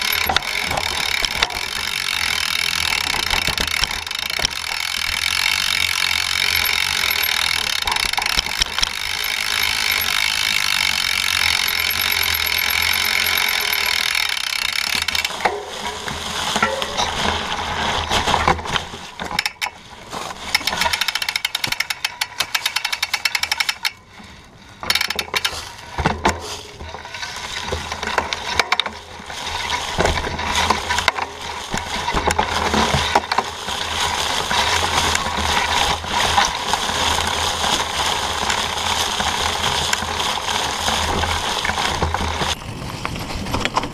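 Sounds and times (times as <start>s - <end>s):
bike rattling and clicking: 0.0s - 43.9s
bike tyres in dry leaves: 0.0s - 43.9s
wind: 0.0s - 43.9s.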